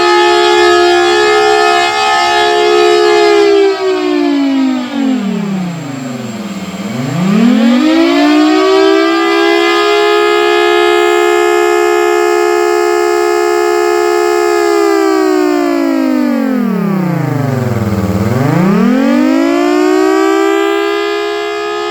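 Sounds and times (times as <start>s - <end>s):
two-note siren wailing: 0.0s - 21.9s.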